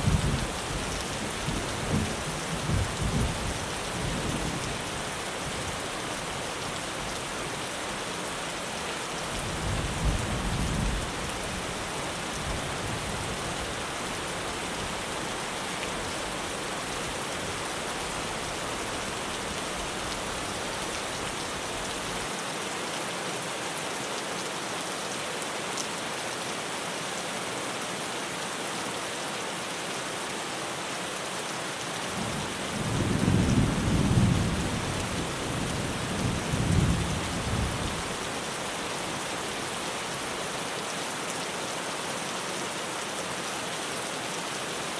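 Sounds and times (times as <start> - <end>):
heavy rain on a tin roof: 0.0 - 44.9.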